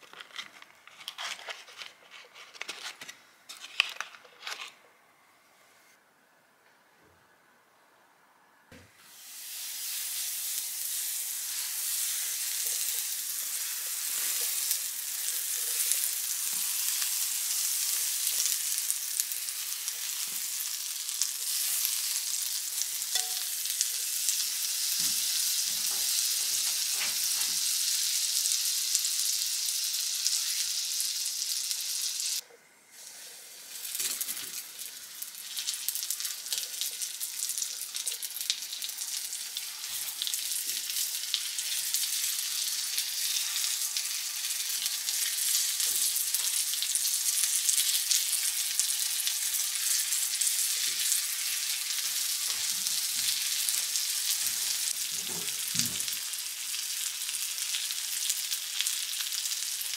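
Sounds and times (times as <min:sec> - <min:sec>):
butter sizzling in a frying pan: 0:09.0 - 0:32.4, 0:33.0 - 0:59.9
fish frying with pops: 0:09.5 - 0:32.4, 0:33.7 - 0:59.9.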